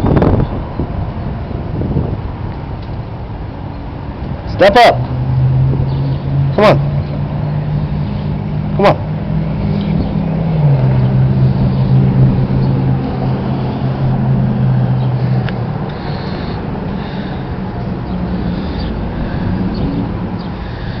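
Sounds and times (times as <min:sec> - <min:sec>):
outdoor rumble: 0:00.0 - 0:21.0
vehicle engine humming: 0:00.0 - 0:21.0.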